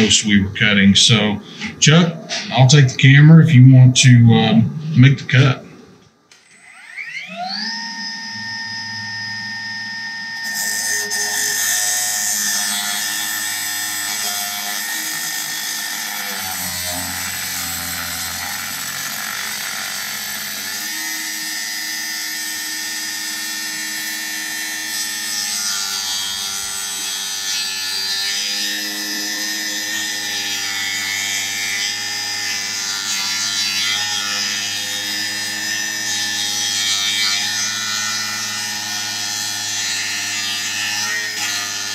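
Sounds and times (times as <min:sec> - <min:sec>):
cut-off saw motor whine: 0:06.3 - 0:41.9
saw blade grinding steel: 0:06.4 - 0:41.9.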